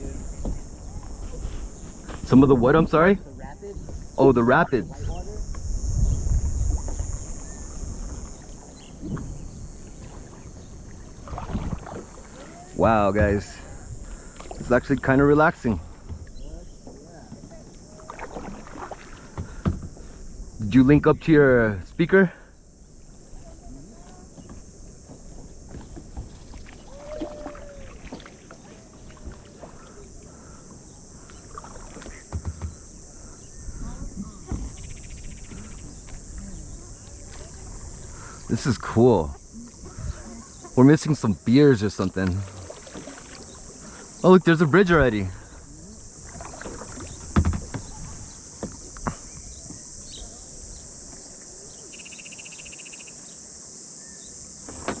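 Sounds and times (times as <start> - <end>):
paddle splashing water: 0.0 - 21.4, 22.1 - 52.3, 54.4 - 55.0
steady high hiss: 0.0 - 28.6, 29.4 - 55.0
insects droning: 0.0 - 55.0.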